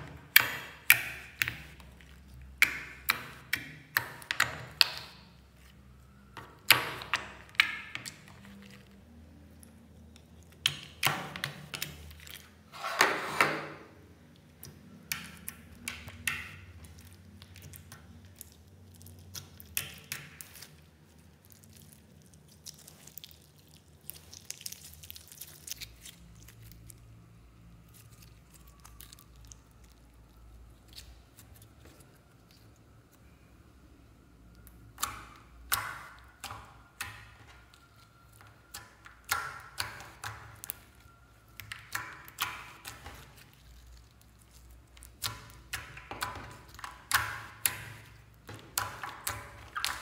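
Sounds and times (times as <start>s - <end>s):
sticky slime crackles: 0.0s - 12.7s, 14.0s - 50.0s
slime squelching: 0.0s - 12.9s, 13.8s - 50.0s.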